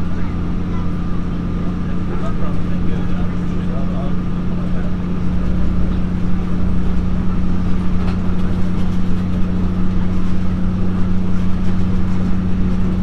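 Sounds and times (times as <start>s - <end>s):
diesel engine humming: 0.0s - 13.0s
train wheels rumbling on track: 0.0s - 13.0s.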